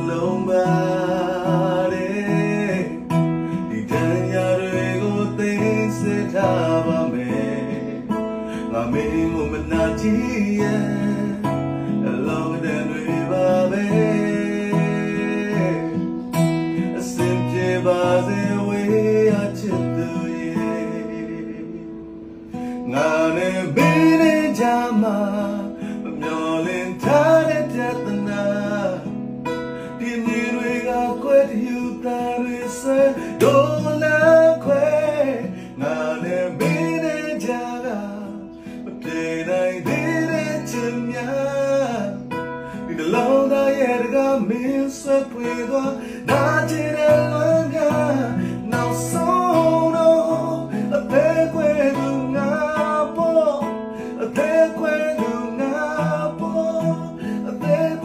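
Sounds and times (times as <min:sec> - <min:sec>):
acoustic guitar strumming: 0:00.0 - 0:58.0
man singing: 0:00.0 - 0:58.0.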